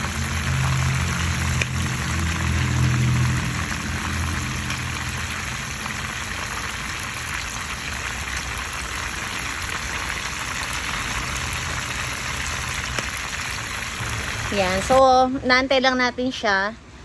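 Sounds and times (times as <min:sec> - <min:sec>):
fish sizzling in hot oil: 0:00.0 - 0:15.3.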